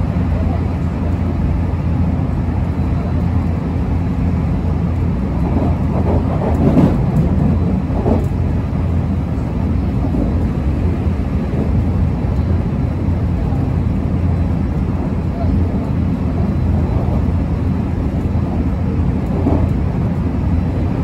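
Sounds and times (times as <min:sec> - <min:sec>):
train rumbling from inside carriage: 0:00.0 - 0:21.0.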